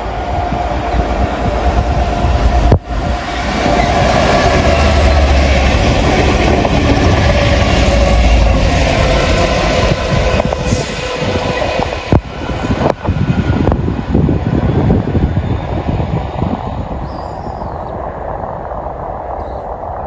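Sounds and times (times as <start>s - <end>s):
diesel locomotive engines: 0.0s - 20.0s.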